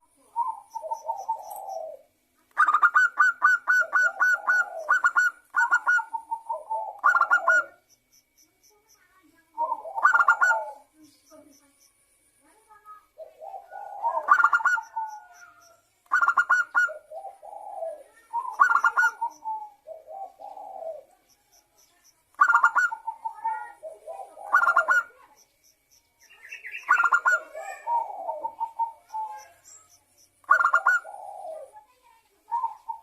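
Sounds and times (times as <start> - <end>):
dove cooing: 0.0 - 7.9, 9.5 - 11.5, 13.1 - 21.8, 22.4 - 25.4, 26.4 - 33.0.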